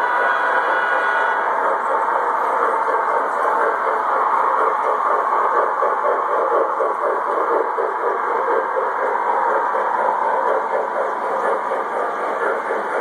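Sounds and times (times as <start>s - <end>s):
model trains running on track: 0.0s - 13.0s.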